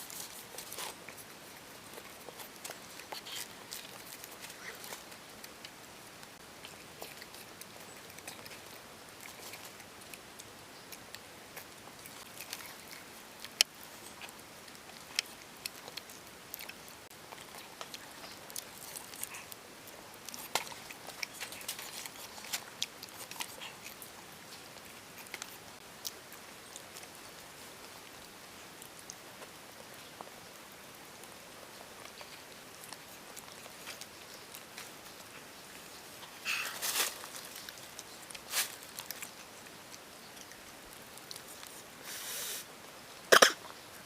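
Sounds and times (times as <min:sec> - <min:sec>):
crunchy chewing: 0:00.0 - 0:44.0.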